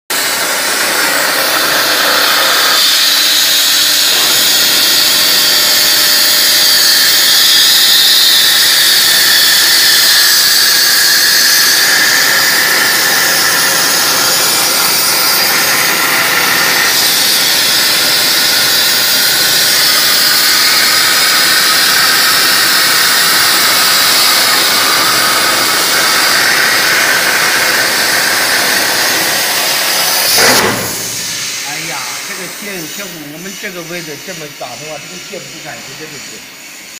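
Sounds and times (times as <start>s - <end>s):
plasma torch hissing: 1.2s - 36.9s.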